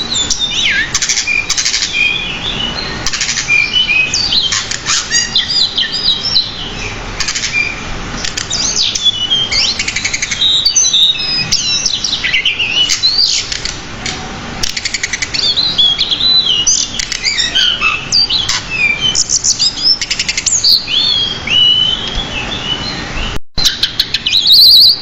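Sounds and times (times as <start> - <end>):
bird singing whistled notes: 0.0 - 13.6, 14.7 - 25.0
bird chattering trills: 0.0 - 25.0.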